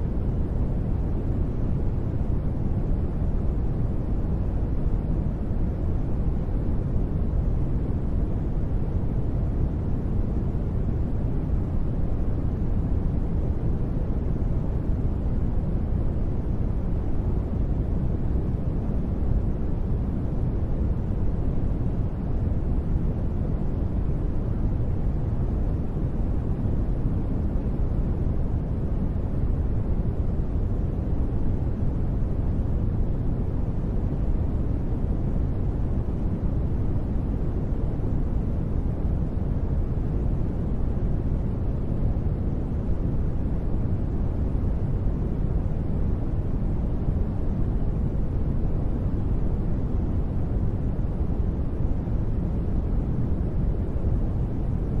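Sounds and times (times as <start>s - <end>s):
deep white noise hiss: 0.0s - 55.0s.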